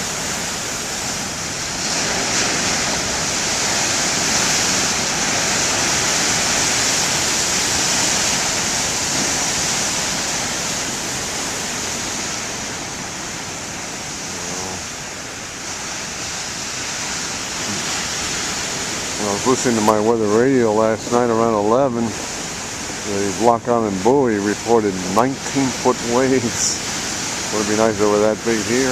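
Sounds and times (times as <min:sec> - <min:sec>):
waves breaking on shore: 0:00.0 - 0:28.9.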